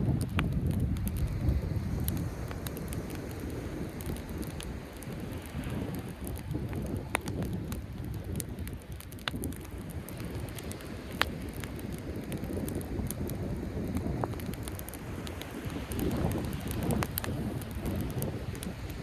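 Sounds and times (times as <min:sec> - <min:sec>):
campfire crackling and popping: 0:00.0 - 0:19.0
sea waves rumbling: 0:00.0 - 0:19.0.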